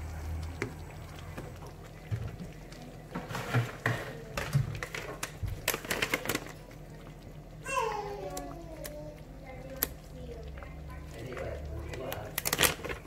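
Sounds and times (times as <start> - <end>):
wooden spoon stirring porridge: 0.5 - 13.0.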